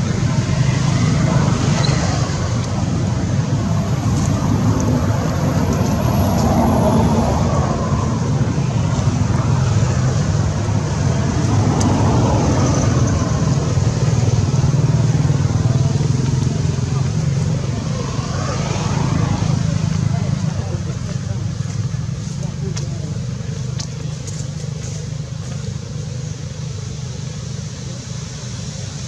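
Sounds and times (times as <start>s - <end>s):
motor traffic rumble: 0.0s - 29.0s.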